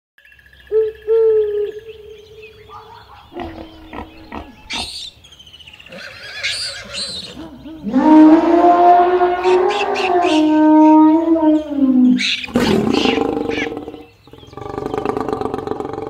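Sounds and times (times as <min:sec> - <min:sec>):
bird chirping: 0:00.2 - 0:15.8
wild animal calls: 0:00.7 - 0:05.1, 0:05.9 - 0:16.0.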